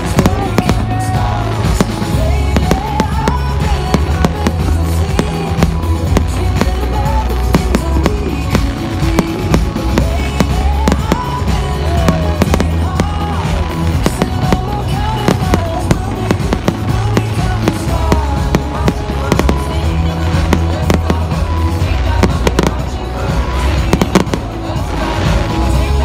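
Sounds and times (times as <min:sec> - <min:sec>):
fireworks bangs and crackling: 0:00.0 - 0:26.0
music with bass line: 0:00.0 - 0:26.0.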